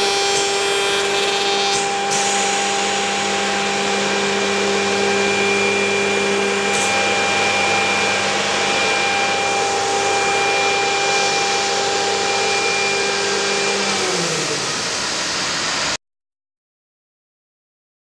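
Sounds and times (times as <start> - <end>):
milling machine motors whining: 0.0 - 15.8.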